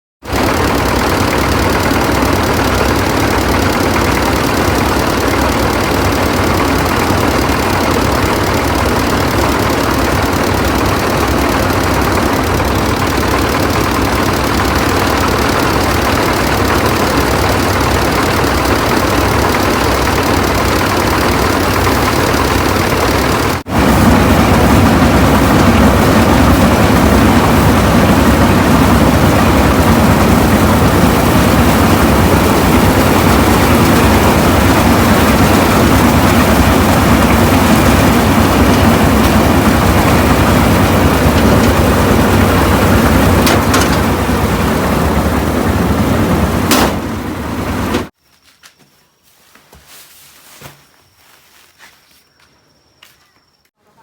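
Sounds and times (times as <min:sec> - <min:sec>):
engine running: 0:00.2 - 0:48.2.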